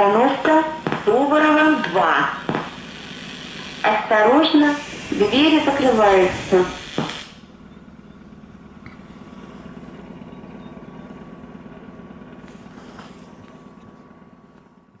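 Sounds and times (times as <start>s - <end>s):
train motors humming: 0.0s - 15.0s
wheel and rail noise: 0.0s - 15.0s.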